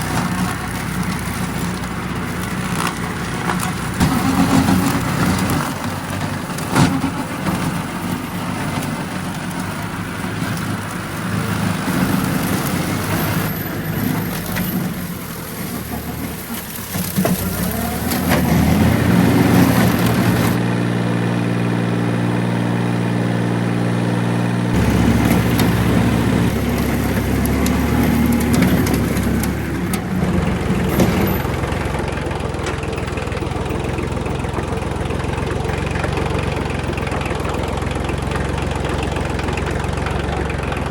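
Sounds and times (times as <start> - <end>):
diesel engine running: 0.0 - 40.9
engine knocks: 0.0 - 40.9.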